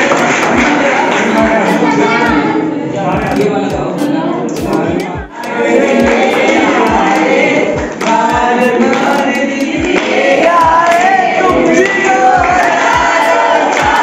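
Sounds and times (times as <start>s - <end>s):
song with sung vocals: 0.0s - 14.0s.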